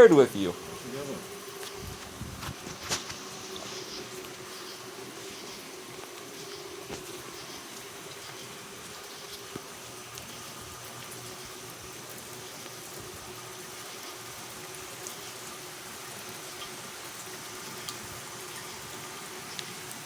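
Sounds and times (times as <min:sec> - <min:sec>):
faint steady hum: 0:00.0 - 0:20.0
steady rain hiss: 0:00.0 - 0:20.0.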